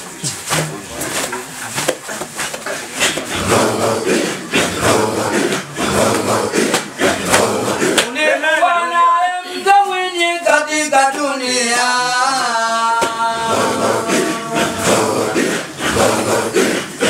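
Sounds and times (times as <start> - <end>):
man chanting through microphone: 0.0 - 17.0
men chanting rhythmically: 3.1 - 17.0.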